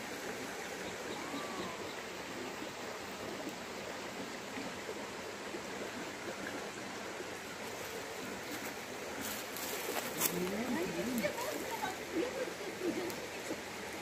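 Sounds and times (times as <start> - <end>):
stream flowing over stones: 0.0 - 14.0.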